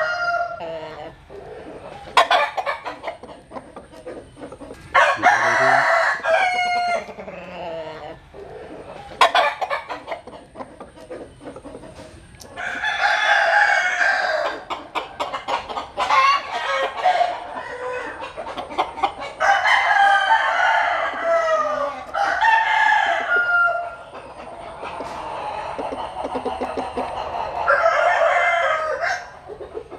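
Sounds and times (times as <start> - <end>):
roosters crowing: 0.0 - 3.2, 4.6 - 10.2, 12.5 - 29.6.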